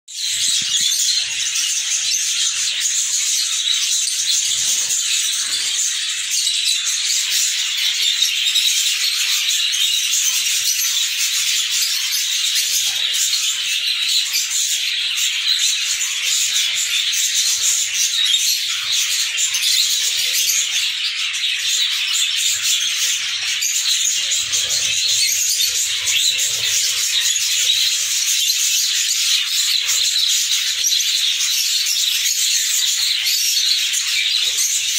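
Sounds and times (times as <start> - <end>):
budgerigars chattering: 0.2 - 34.9.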